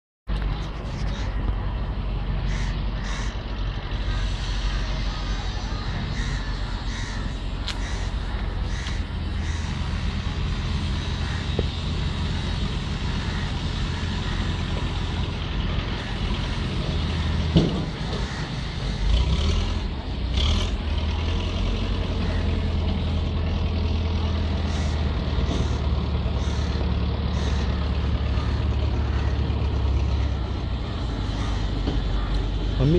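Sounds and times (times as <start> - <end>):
heavy vehicle engine rumbling: 0.3 - 32.9.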